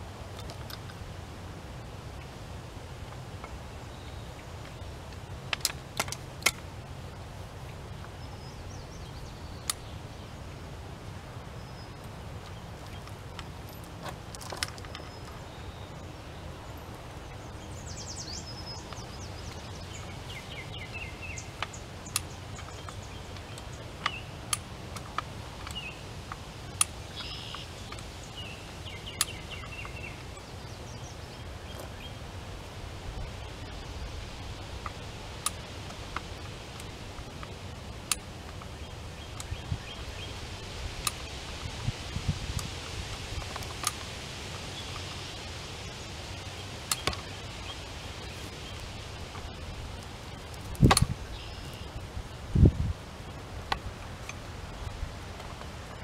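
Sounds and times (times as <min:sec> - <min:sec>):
low outdoor rumble: 0:00.0 - 0:56.0
birds chirping: 0:06.8 - 0:10.6, 0:11.4 - 0:56.0.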